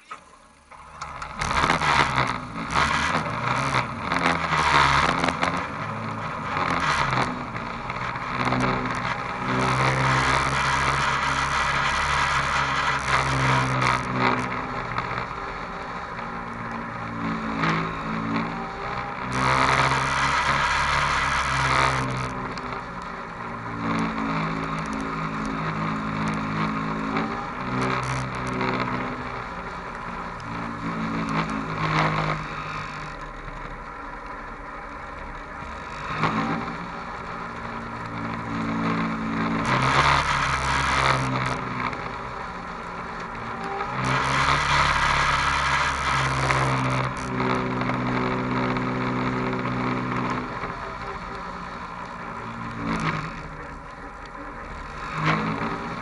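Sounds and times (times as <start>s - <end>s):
vehicle engine driving slowly: 0.0s - 56.0s.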